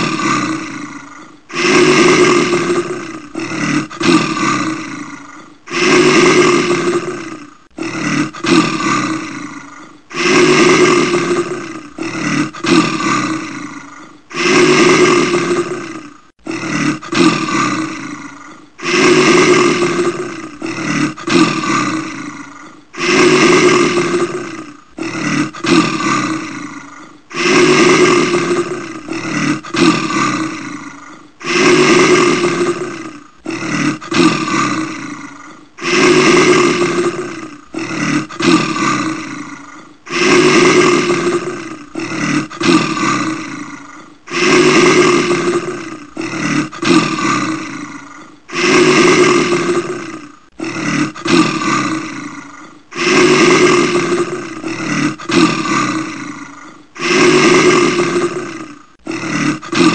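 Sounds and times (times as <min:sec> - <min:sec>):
bear roaring: 0:00.0 - 0:59.9.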